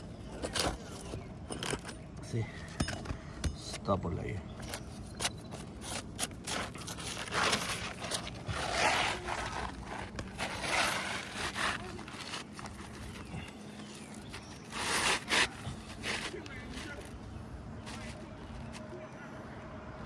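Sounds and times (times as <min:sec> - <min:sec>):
roof shingles scraping and rustling: 0:00.0 - 0:02.0, 0:04.2 - 0:19.0.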